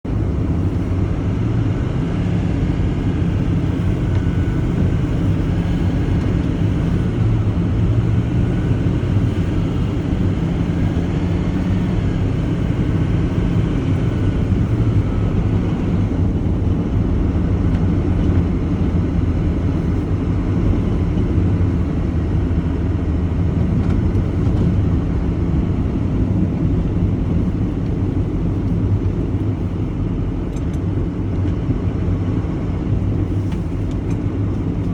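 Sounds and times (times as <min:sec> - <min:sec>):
truck engine running: 0:00.0 - 0:34.9
faint whine: 0:00.1 - 0:34.9.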